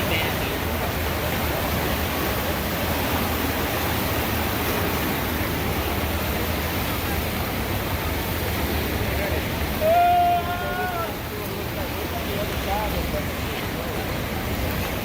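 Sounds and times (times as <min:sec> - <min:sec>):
flooded river rushing: 0:00.0 - 0:15.0.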